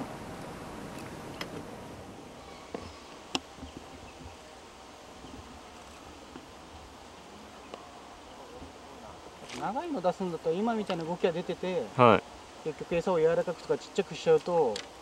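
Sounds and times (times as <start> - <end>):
faint steady buzz: 0.0 - 15.0.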